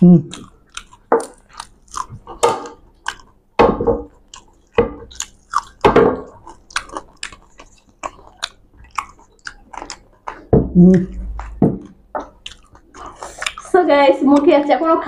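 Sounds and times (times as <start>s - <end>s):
people chewing and lip-smacking: 0.0s - 15.0s.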